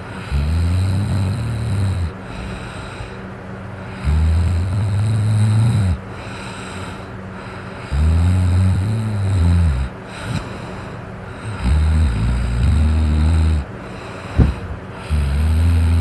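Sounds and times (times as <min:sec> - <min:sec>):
quiet breathing: 0:00.0 - 0:16.0
person snoring: 0:00.1 - 0:03.2, 0:03.9 - 0:07.0, 0:07.8 - 0:10.5, 0:11.3 - 0:16.0.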